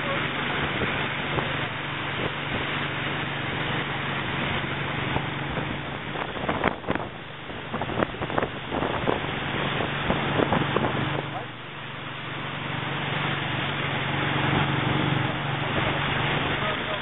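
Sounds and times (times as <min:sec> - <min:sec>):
wind on microphone: 0:00.0 - 0:11.7, 0:12.9 - 0:17.0
boat engine hum: 0:00.0 - 0:17.0
churning wake: 0:00.0 - 0:17.0.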